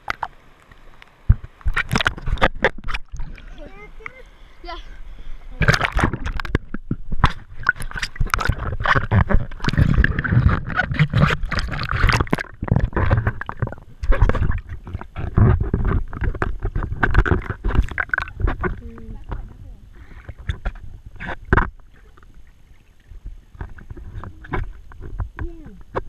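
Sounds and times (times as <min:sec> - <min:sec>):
sea water splashing: 0:00.0 - 0:26.0
churning water rumble: 0:01.2 - 0:26.0.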